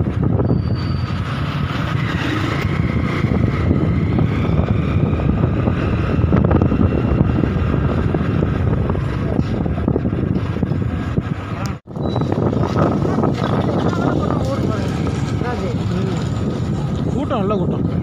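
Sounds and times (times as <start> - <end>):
motorcycle engine rumble: 0.0 - 18.0
wind buffeting microphone: 0.0 - 18.0.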